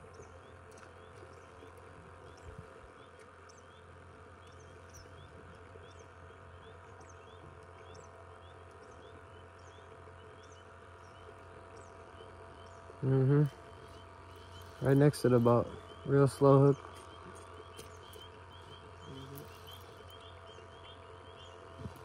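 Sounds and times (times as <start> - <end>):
frogs peeping chorus: 0.0 - 22.0
steady low hum: 0.0 - 22.0.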